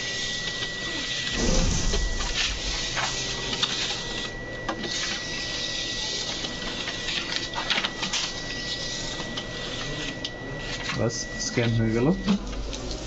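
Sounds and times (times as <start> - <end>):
scanner rollers whirring: 0.0 - 13.0.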